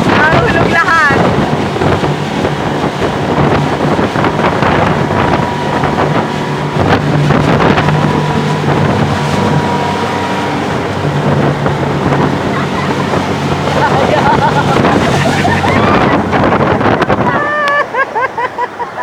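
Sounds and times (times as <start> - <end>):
wind noise on microphone: 0.0 - 18.1
motorboat engine running: 0.0 - 19.0
rushing water: 0.0 - 19.0.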